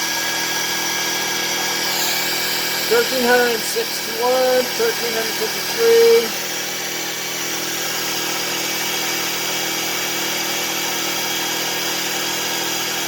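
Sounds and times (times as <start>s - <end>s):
generator engine hum: 0.0s - 13.0s
hair dryer blowing: 0.0s - 13.0s.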